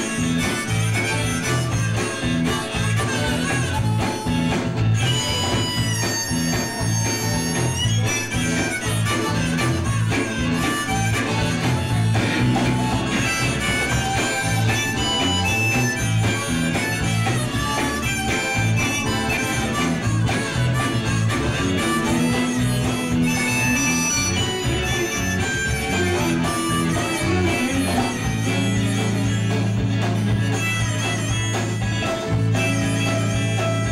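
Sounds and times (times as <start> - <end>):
blues-rock band playing: 0.0 - 33.9.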